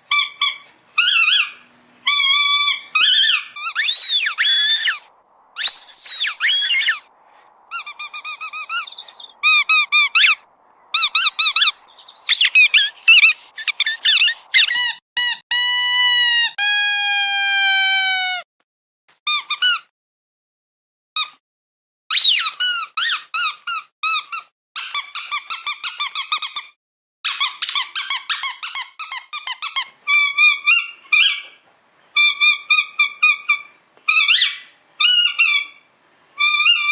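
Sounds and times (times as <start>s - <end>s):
squeaky dog toys squeaking: 0.1s - 7.1s, 7.7s - 18.4s, 19.3s - 19.9s, 22.1s - 26.7s, 27.3s - 31.6s, 32.2s - 35.8s, 36.4s - 36.9s.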